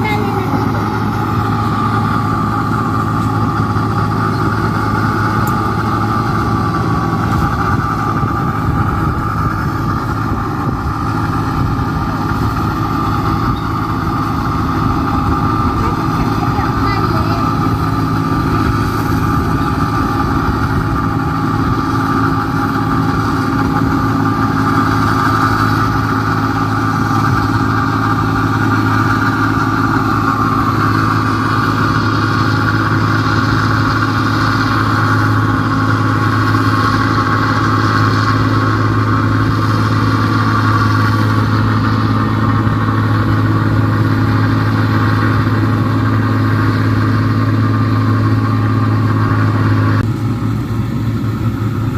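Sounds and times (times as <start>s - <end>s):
combine harvester running: 0.0s - 51.9s.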